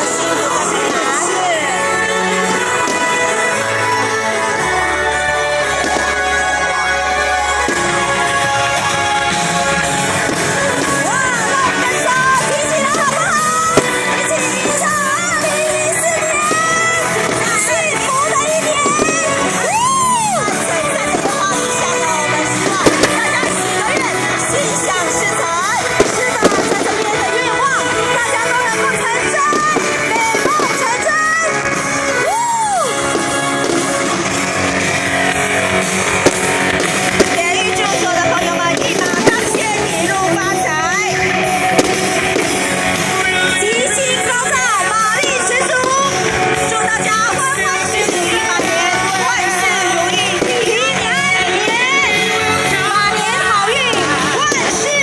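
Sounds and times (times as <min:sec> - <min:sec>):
crowd voices and shouts: 0:00.0 - 0:55.0
pop song with singing: 0:00.0 - 0:55.0.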